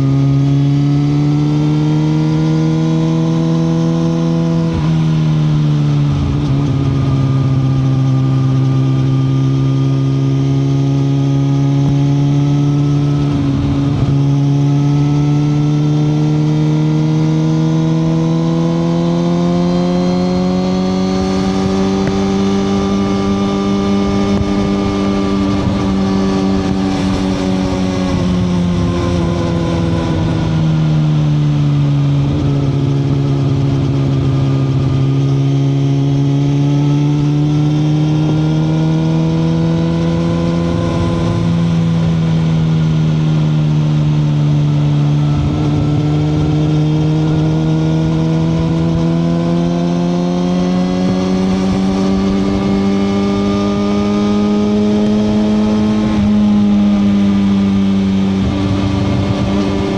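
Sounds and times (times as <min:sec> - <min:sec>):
motorcycle engine at part throttle: 0:00.0 - 0:59.9.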